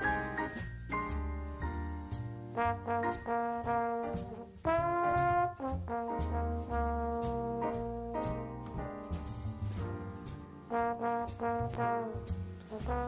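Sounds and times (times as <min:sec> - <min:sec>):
steady beat: 0:00.0 - 0:13.0
jazzy trombone-like brass lead: 0:02.0 - 0:13.0.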